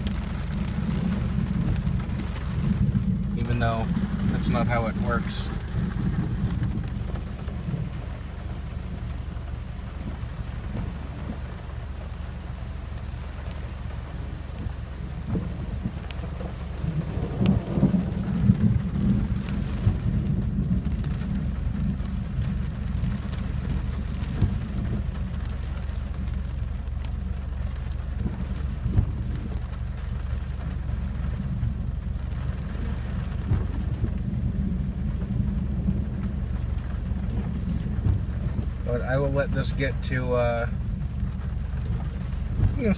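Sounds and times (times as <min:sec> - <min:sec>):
rain falling on a car: 0:00.0 - 0:42.9
raindrops ticking: 0:00.0 - 0:42.9
thunder rumble: 0:00.0 - 0:42.9.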